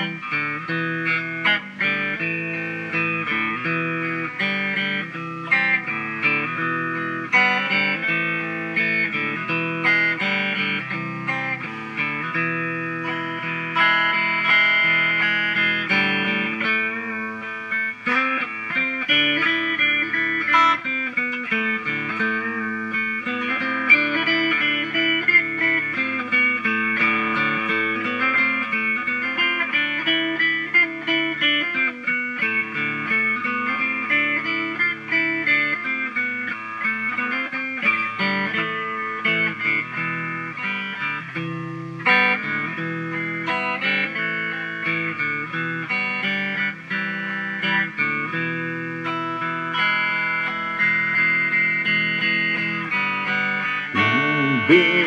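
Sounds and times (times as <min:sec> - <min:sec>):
electric guitar melody: 0:00.0 - 0:55.0.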